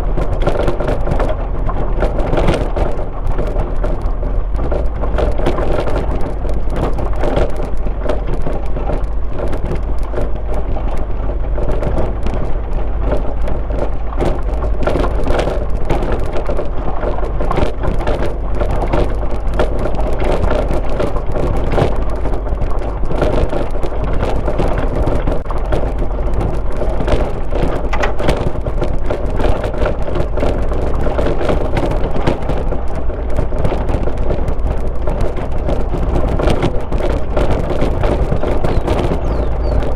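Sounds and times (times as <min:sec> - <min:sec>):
car engine and tyres rumbling: 0:00.0 - 0:39.9
crackles and clatter: 0:00.0 - 0:39.9.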